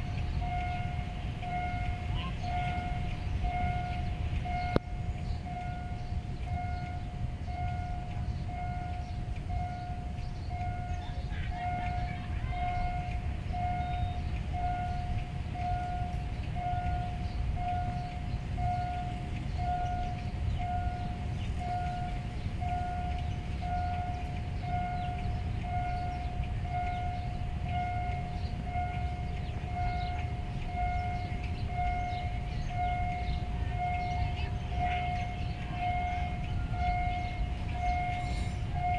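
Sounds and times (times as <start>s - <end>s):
level crossing warning tone: 0.0s - 38.9s.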